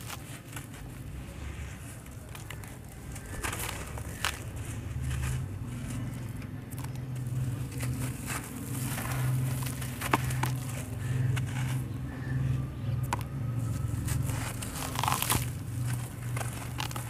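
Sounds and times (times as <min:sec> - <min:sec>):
cement chunks crunching: 0:00.0 - 0:17.0
steady low hum: 0:00.0 - 0:17.0.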